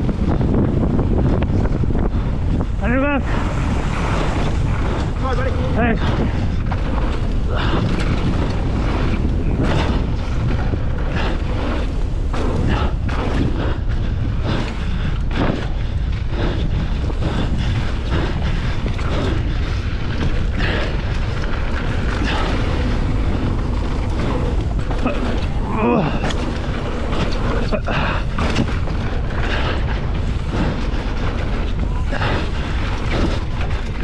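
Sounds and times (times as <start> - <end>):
bike rattling over rough ground: 0.0 - 34.0
wind buffeting microphone: 0.0 - 34.0.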